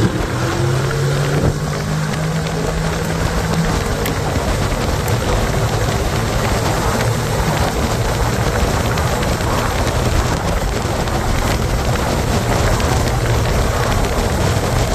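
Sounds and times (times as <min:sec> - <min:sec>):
motorcycle engine: 0:00.0 - 0:14.9
wind rushing on microphone: 0:00.0 - 0:14.9.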